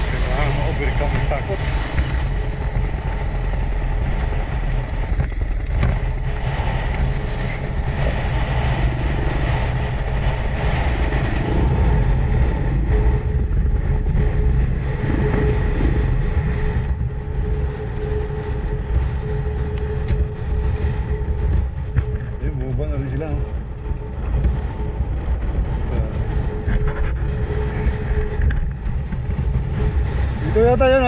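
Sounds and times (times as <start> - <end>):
motorcycle engine drone: 0.0 - 31.0
steady whine: 0.0 - 31.0.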